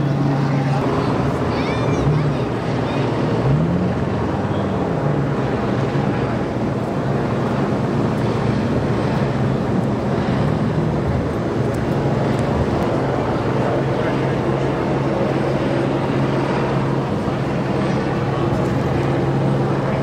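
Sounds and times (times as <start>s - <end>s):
low engine hum: 0.0s - 20.0s
traffic noise: 0.0s - 20.0s.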